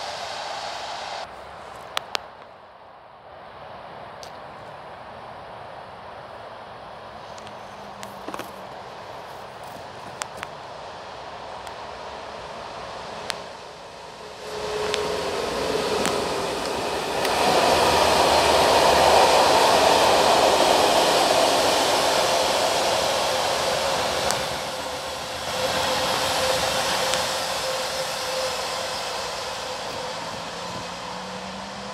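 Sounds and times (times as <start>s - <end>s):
freight train wheels rumbling: 0.0s - 2.5s, 4.0s - 31.9s.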